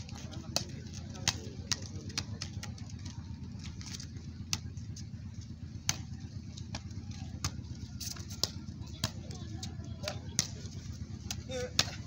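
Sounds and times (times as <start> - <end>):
football kicked with bare feet: 0.0 - 12.0
steady low rumble: 0.0 - 12.0.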